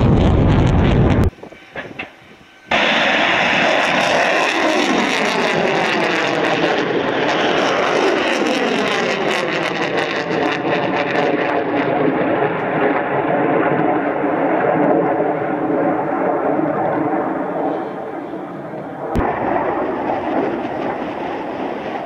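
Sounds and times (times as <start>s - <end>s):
rocket motors rushing and crackling: 0.0s - 22.0s.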